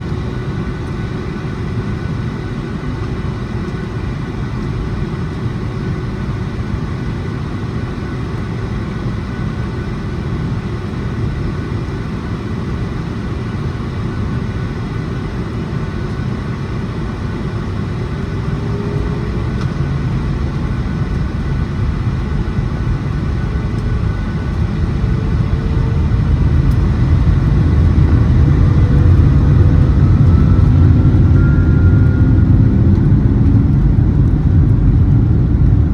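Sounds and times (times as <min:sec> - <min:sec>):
jet engine whine: 0:00.0 - 0:35.9
jet engines rumbling: 0:00.0 - 0:35.9.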